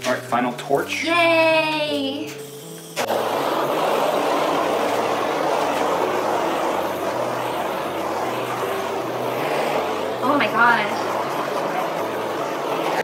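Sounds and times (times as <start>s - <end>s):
blowtorch flame hissing: 0.0s - 13.0s.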